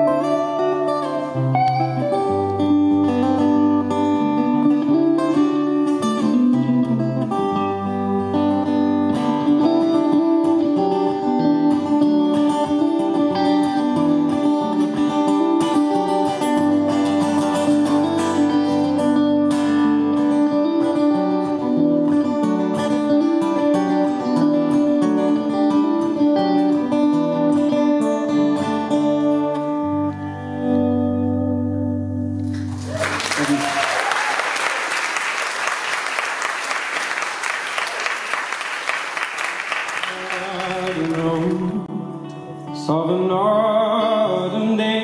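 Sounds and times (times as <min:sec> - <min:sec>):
acoustic guitar: 0:00.0 - 0:34.3, 0:35.0 - 0:45.0
electric guitar: 0:00.0 - 0:35.0, 0:37.7 - 0:45.0.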